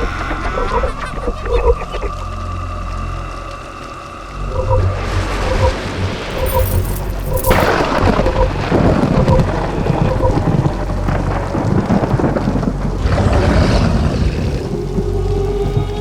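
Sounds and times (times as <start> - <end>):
rain falling: 1.1 - 6.4, 7.2 - 16.0.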